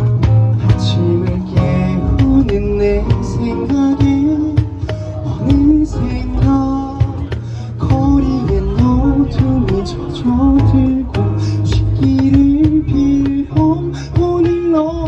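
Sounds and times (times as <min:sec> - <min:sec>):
bass: 0:00.0 - 0:15.0
cajon beat: 0:00.0 - 0:15.0
keyboard melody: 0:00.0 - 0:15.0
strummed guitars: 0:00.0 - 0:15.0.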